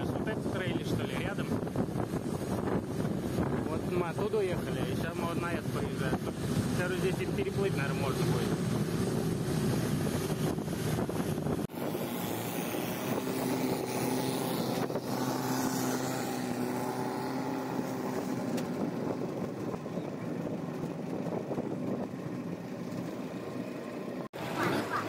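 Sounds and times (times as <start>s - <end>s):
wind buffeting microphone: 0.0s - 24.3s
boat engine running: 0.0s - 25.0s.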